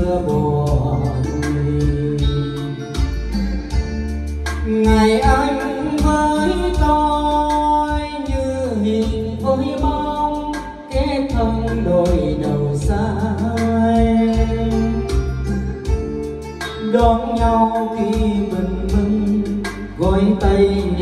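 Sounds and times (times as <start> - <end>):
loud karaoke song with singing: 0.0 - 21.0
strong bass: 0.0 - 21.0.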